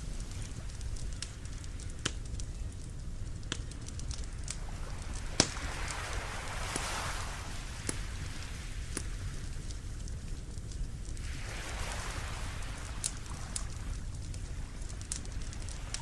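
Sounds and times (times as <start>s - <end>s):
campfire crackling: 0.0s - 16.0s
sharp pops of fire: 0.0s - 16.0s.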